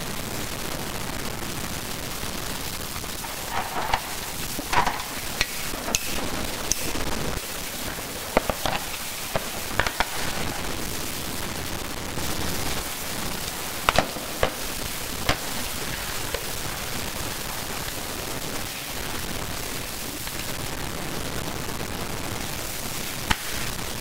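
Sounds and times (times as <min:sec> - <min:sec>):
sharp clicks and crackles: 0:00.0 - 0:24.0
steady hiss: 0:00.0 - 0:24.0.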